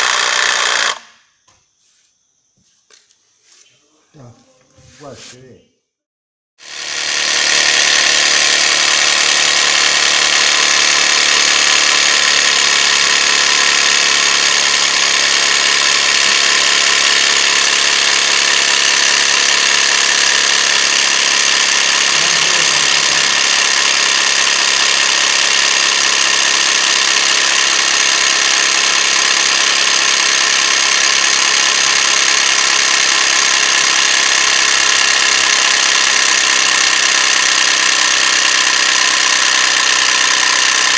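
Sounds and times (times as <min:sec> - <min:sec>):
air compressor running: 0:00.0 - 0:01.2, 0:06.6 - 0:40.9.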